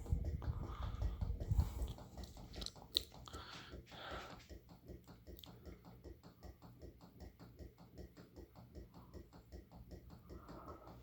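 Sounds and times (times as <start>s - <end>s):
ceiling fan motor humming: 0.0s - 11.0s
rapid clicking of fan wobble: 0.0s - 11.0s.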